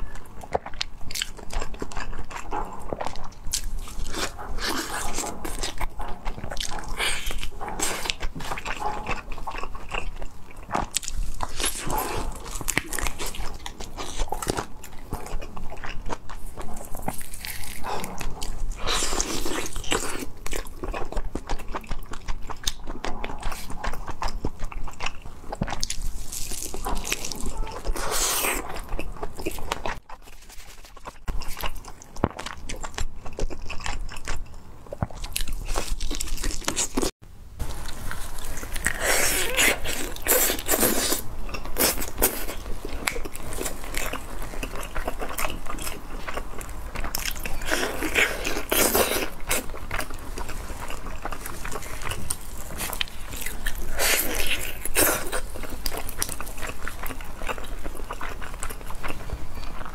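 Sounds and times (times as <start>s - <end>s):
person chewing and biting chicken: 0.0s - 37.1s, 37.7s - 59.9s.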